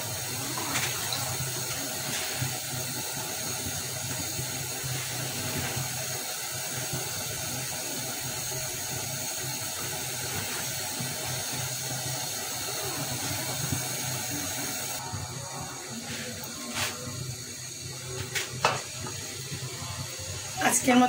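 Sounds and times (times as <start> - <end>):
vegetables hissing in lidded wok: 0.0 - 21.0.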